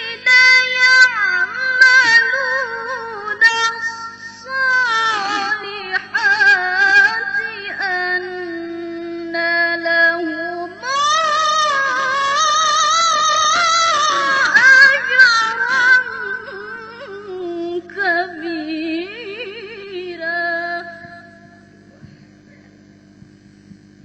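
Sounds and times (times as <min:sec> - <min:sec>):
woman reciting melodically: 0:00.0 - 0:21.7.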